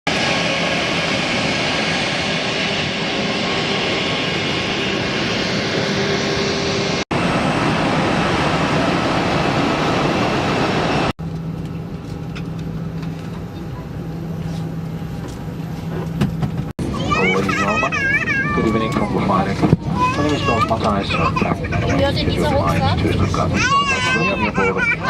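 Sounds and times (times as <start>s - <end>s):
jet engines roaring: 0.1s - 25.0s.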